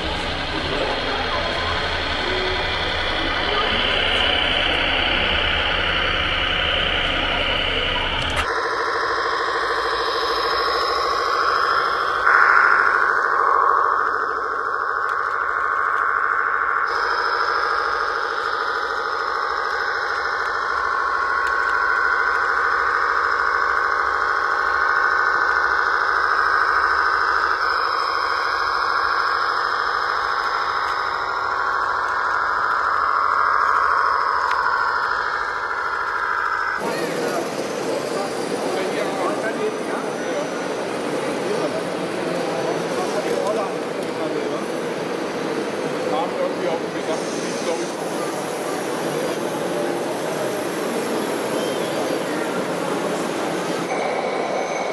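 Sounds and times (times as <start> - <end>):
electric motor and gearbox whine: 0.0 - 54.9.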